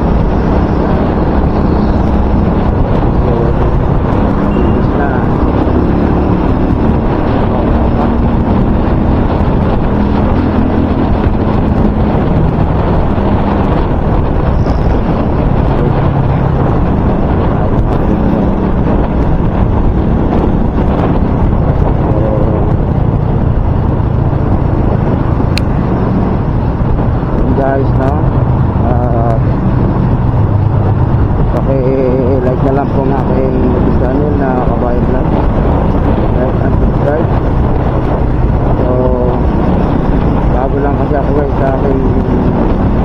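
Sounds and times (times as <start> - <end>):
low vehicle hum: 0.0 - 43.0
wind buffeting microphone: 0.0 - 43.0.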